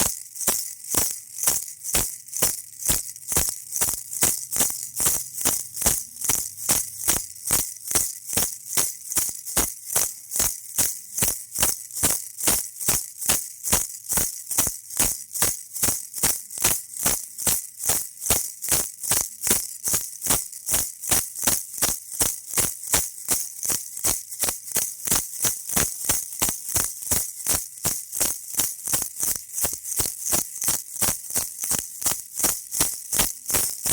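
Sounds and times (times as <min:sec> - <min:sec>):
baby rattle shaken: 0:00.0 - 0:33.9.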